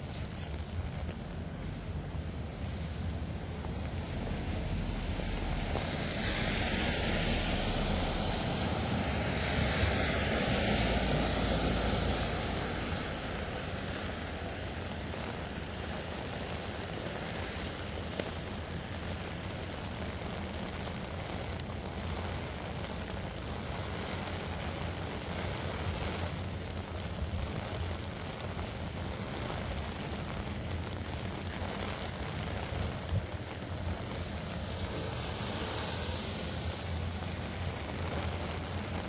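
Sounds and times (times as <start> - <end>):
car tyres hissing on wet pavement: 0.0 - 39.0
rain pattering on an umbrella: 0.0 - 39.0.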